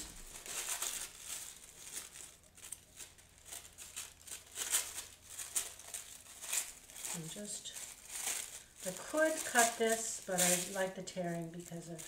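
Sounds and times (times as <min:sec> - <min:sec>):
paper tearing and crinkling: 0:00.0 - 0:12.0.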